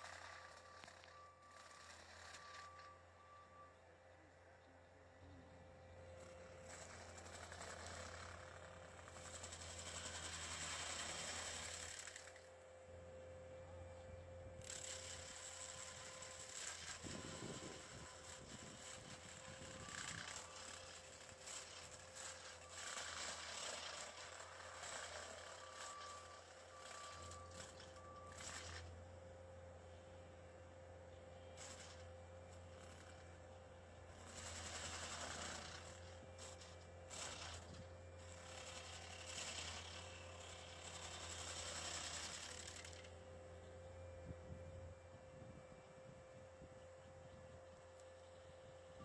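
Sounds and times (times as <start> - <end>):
stump grinder machine hum: 0.0 - 49.0.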